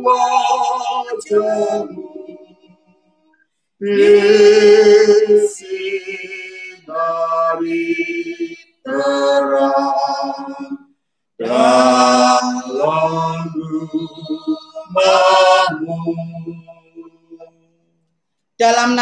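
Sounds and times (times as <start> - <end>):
women singing a hymn: 0.0 - 2.7, 3.8 - 10.8, 11.4 - 17.4, 18.6 - 19.0.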